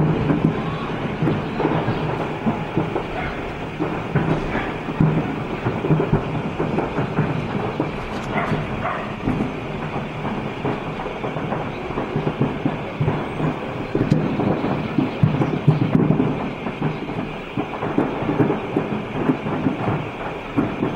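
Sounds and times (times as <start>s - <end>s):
low rumbling and crackling: 0.0s - 20.9s
small cracks and pops: 1.2s - 20.9s.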